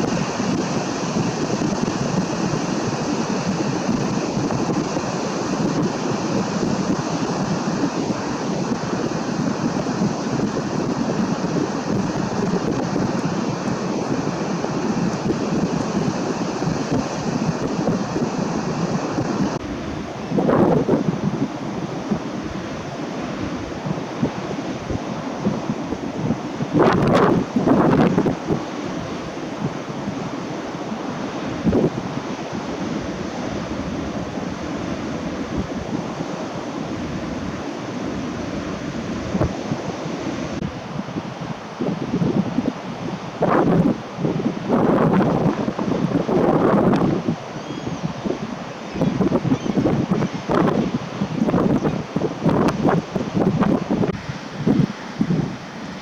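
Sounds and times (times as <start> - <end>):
breaking surf: 0.0 - 56.0
wind buffeting microphone: 0.0 - 56.0.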